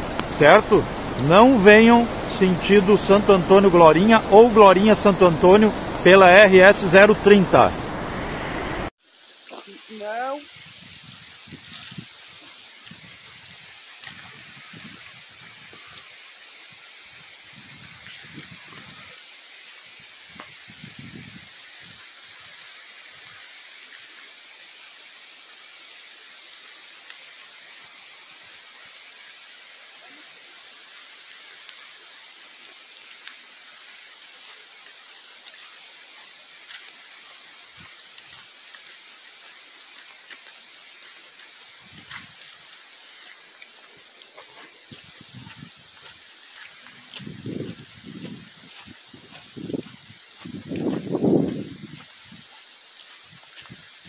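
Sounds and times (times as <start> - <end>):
rain on wet pavement: 0.0 - 54.0.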